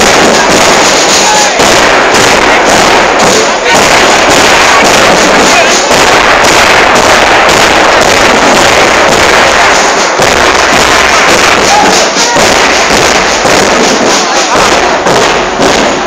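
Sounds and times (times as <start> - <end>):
bass drums pounding: 0.0 - 16.0
marching drum band playing: 0.0 - 16.0.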